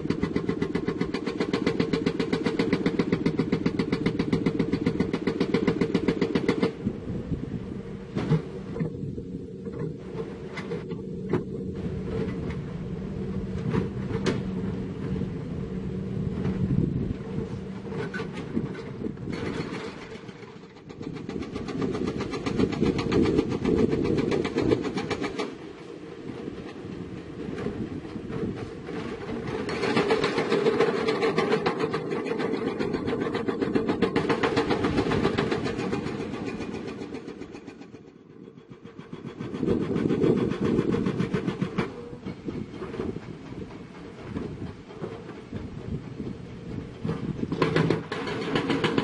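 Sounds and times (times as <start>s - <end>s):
hydraulic rock hammer pounding: 0.0s - 7.0s, 16.4s - 49.0s
diesel engine running: 0.0s - 37.6s, 39.4s - 49.0s.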